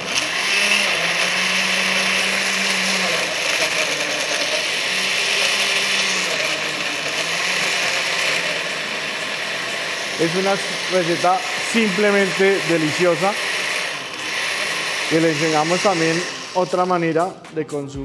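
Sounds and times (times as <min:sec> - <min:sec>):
blender whirring: 0:00.0 - 0:17.4.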